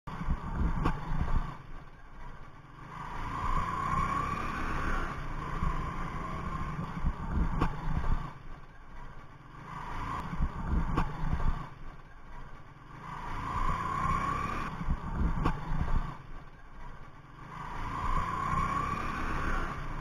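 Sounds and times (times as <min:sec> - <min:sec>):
motorcycle engine running: 0:00.1 - 0:20.0.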